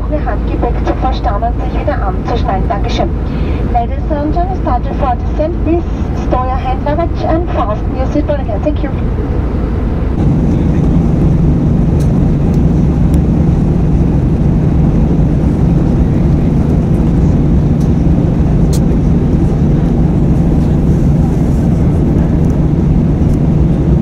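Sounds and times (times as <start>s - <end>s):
airplane cabin engine drone: 0.0s - 24.0s
constant low hum: 0.0s - 24.0s.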